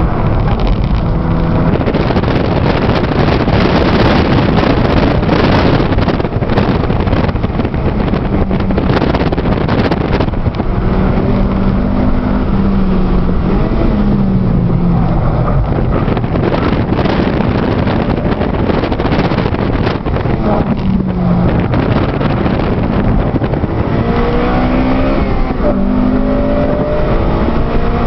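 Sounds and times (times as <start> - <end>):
car engine running hard: 0.0 - 28.0
wind rushing: 0.0 - 28.0.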